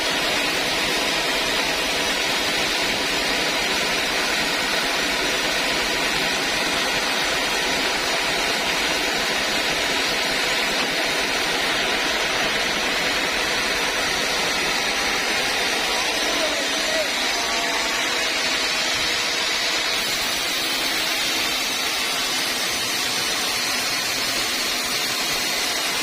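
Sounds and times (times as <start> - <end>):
sawmill saw running: 0.0 - 26.0.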